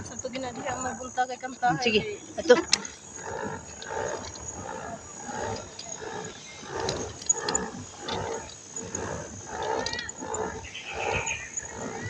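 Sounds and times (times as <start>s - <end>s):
pedal boat groaning churn: 0.0s - 12.0s.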